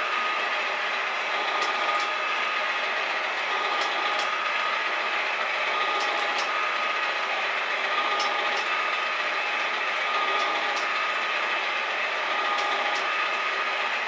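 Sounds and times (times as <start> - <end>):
metal shaper running: 0.0 - 14.0.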